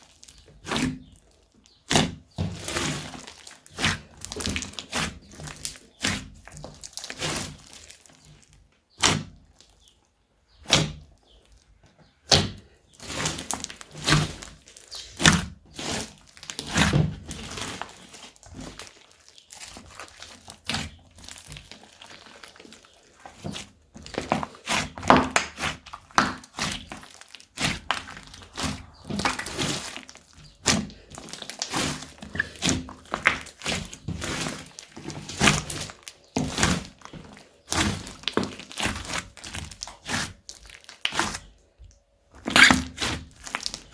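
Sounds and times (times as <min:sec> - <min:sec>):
slime squished by hand: 0:00.0 - 0:41.6, 0:42.3 - 0:43.9.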